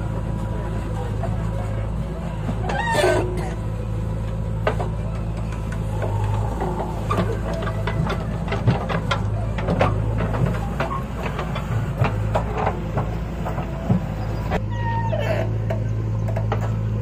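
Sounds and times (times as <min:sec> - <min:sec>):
diesel engines running: 0:00.0 - 0:17.0.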